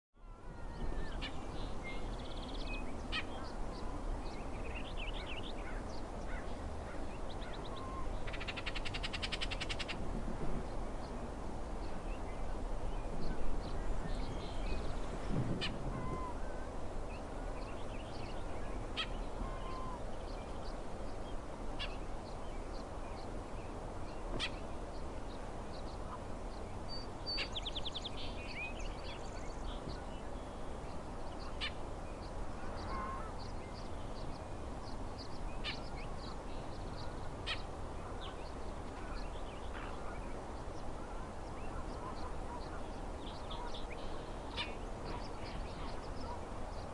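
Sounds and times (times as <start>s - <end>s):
steady background noise: 0.3s - 46.9s.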